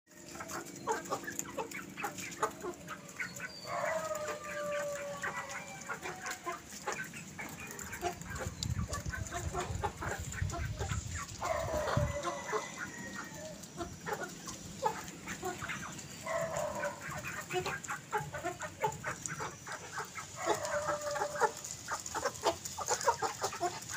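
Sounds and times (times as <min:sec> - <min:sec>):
beaks ticking on gravel: 0:00.1 - 0:23.9
hens clucking softly: 0:00.2 - 0:23.9.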